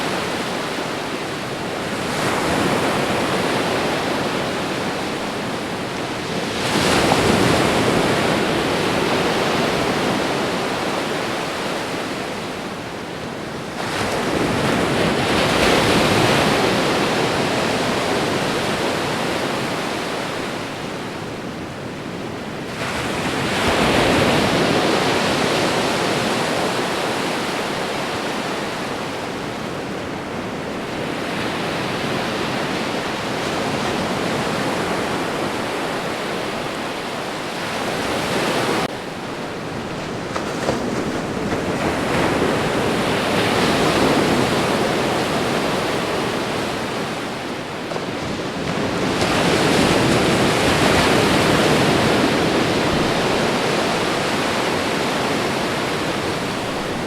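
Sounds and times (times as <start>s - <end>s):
ocean surf breaking waves: 0.0s - 57.0s.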